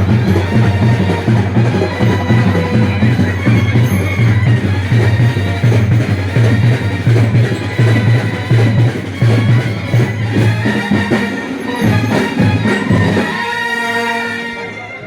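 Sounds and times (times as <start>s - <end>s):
sustained instrumental sound: 0.0s - 15.0s.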